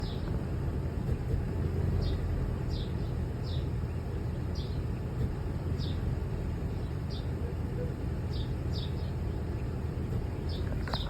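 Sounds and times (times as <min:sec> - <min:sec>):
truck engine sputtering rumble: 0:00.0 - 0:11.0.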